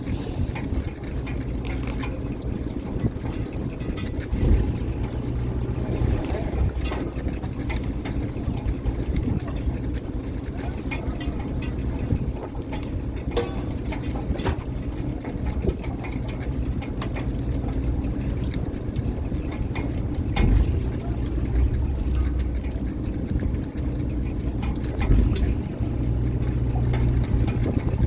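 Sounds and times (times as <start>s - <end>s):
boat engine running: 0.0s - 28.0s
knocks and clatter: 0.0s - 28.0s.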